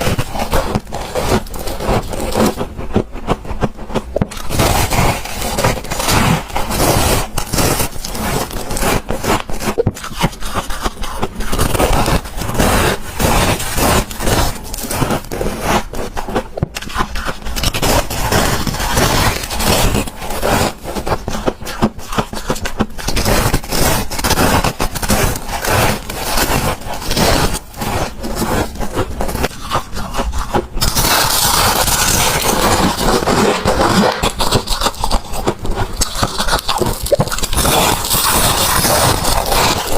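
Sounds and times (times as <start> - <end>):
crunching frost: 0.0 - 39.9.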